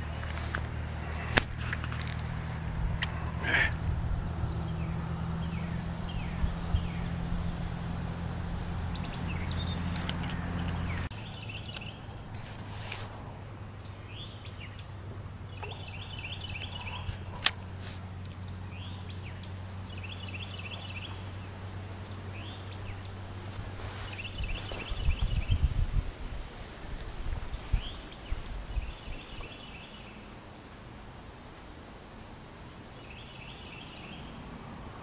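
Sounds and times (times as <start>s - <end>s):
steady low hum: 0.0s - 32.4s
songbirds singing: 0.0s - 35.0s.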